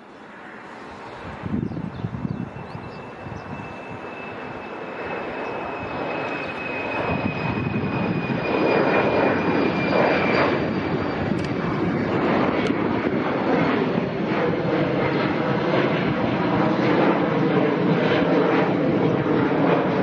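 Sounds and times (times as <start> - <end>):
high jet engine whine: 0.0 - 20.0
jet airliner noise: 0.0 - 20.0.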